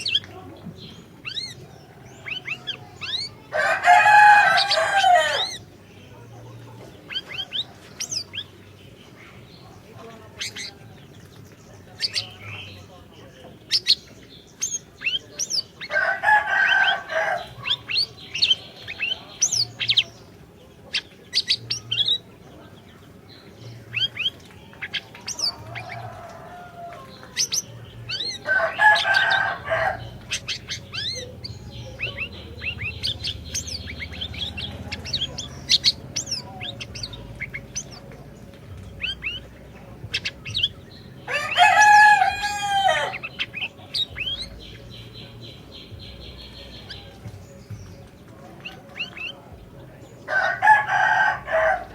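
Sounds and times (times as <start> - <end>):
songbird chirping and whistling: 0.0 - 9.4, 10.4 - 22.3, 23.0 - 51.9
harsh bird calls: 0.0 - 51.9.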